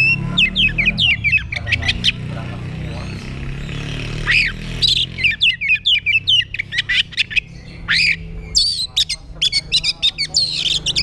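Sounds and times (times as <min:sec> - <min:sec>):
bird singing whistles and chirps: 0:00.0 - 0:02.2, 0:03.1 - 0:11.0.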